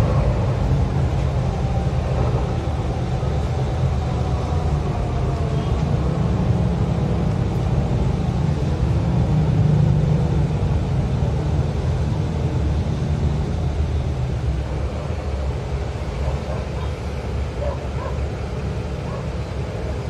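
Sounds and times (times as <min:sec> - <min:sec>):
bus engine rumble: 0:00.0 - 0:20.0
road noise: 0:00.0 - 0:20.0.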